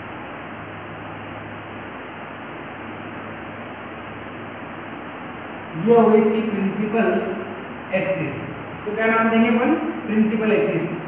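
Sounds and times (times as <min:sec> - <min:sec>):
low hum: 0:00.0 - 0:11.0
room noise hiss: 0:00.0 - 0:11.0.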